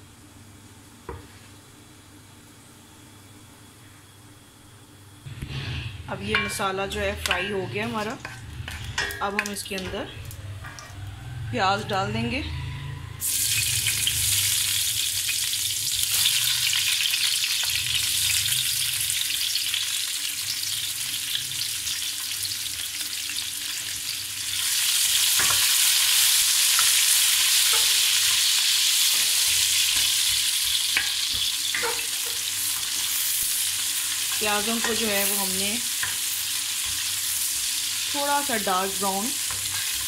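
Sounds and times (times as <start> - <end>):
onions sizzling in hot oil: 5.3 - 11.9, 13.1 - 40.0.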